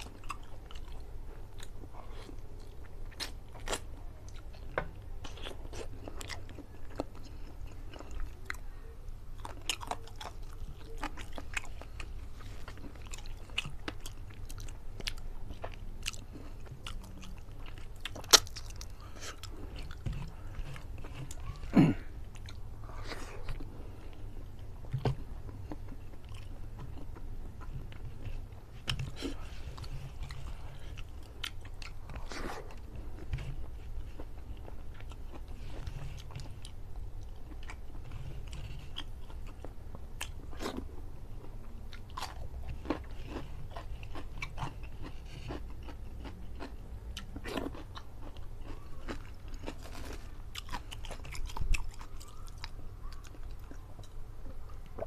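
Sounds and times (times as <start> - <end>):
close chewing: 0.0 - 55.0
steady low hum: 0.0 - 55.0.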